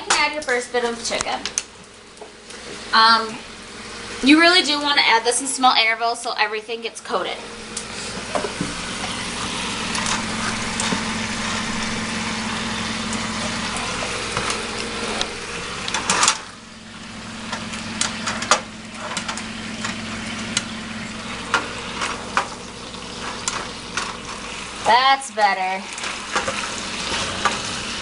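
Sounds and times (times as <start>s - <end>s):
chicken sizzling in a pan: 0.0s - 6.0s, 7.4s - 28.0s
steady low hum: 0.1s - 28.0s.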